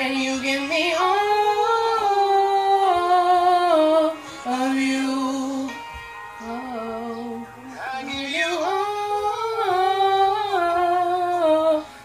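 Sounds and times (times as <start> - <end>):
woman singing unaccompanied: 0.0 - 5.8, 6.4 - 12.0.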